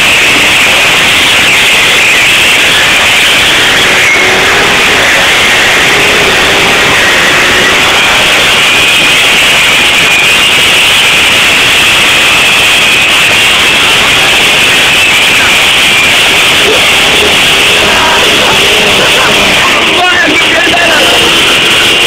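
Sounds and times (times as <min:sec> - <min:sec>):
motorcycle engine running hard: 0:00.0 - 0:22.0.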